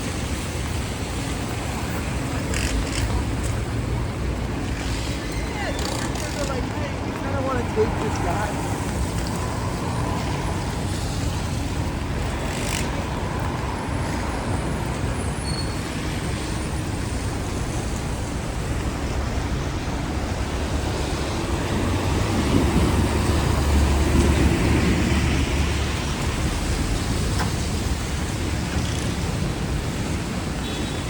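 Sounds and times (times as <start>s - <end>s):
traffic on wet streets: 0.0s - 31.0s.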